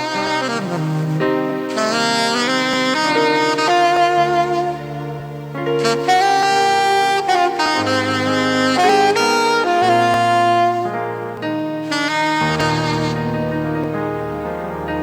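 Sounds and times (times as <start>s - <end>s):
saxophone melody: 0.0s - 15.0s
sustained backing chords: 0.0s - 15.0s.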